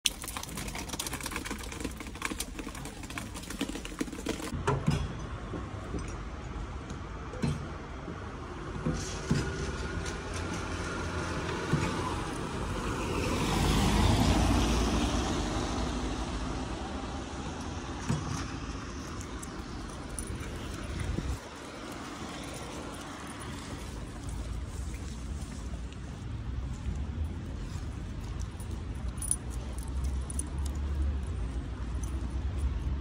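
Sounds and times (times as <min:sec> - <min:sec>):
wet street background: 0:00.0 - 0:33.0.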